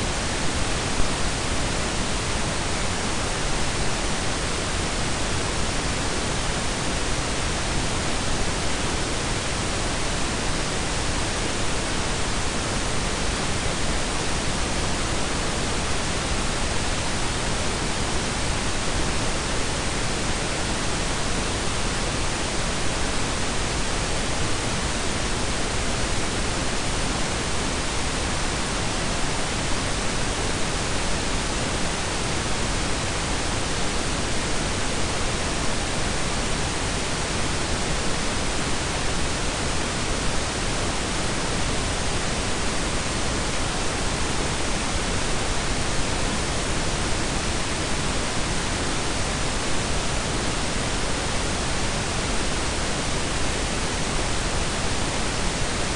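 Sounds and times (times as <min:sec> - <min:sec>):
synthetic pink and brown noise: 0:00.0 - 0:55.9.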